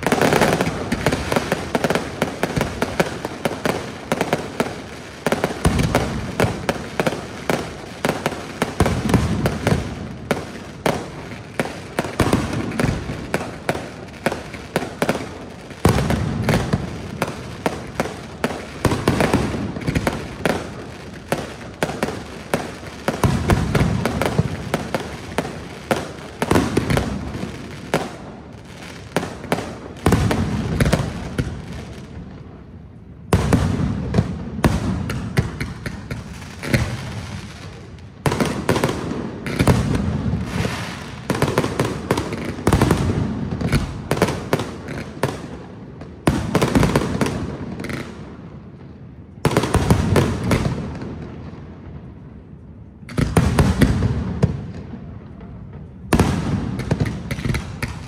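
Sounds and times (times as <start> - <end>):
fireworks bangs and pops: 0.0 - 58.0.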